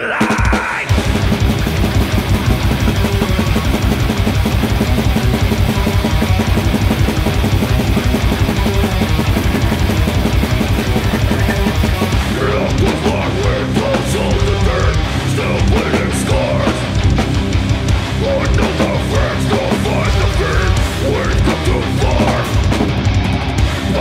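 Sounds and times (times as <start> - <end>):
doom metal band playing live: 0.0 - 24.0.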